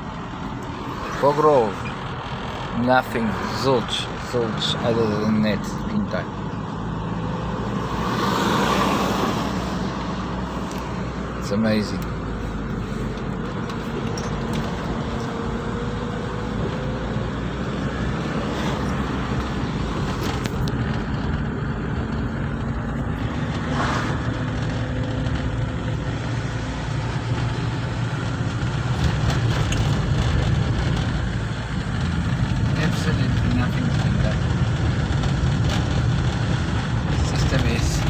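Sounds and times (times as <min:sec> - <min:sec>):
car engine hum: 0:00.0 - 0:38.0.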